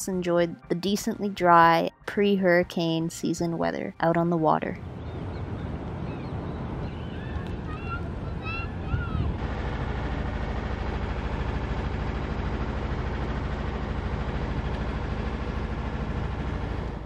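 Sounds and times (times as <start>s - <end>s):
boat engine running: 2.8s - 17.0s.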